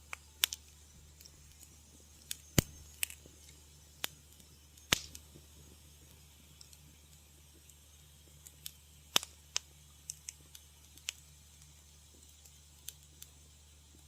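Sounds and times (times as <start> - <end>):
faint steady hiss: 0.0 - 14.0
sharp pops and snaps: 0.0 - 14.0
wood fire crackling: 0.0 - 14.0.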